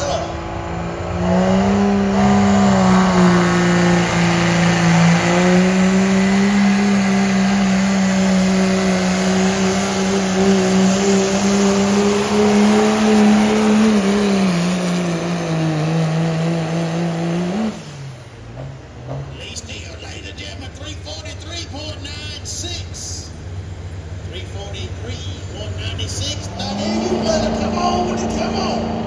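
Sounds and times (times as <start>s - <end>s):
diesel truck engine under load: 0.0s - 29.0s.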